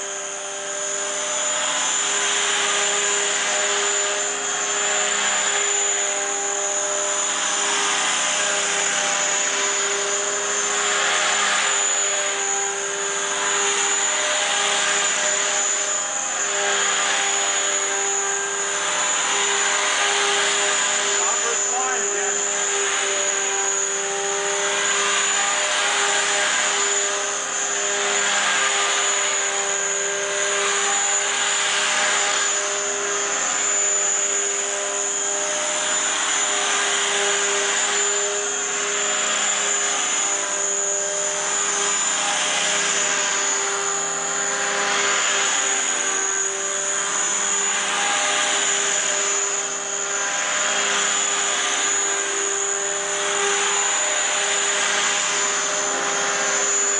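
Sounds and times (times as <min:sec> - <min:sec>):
helicopter rotor noise: 0:00.0 - 0:56.9
high motor whine: 0:00.0 - 0:56.9.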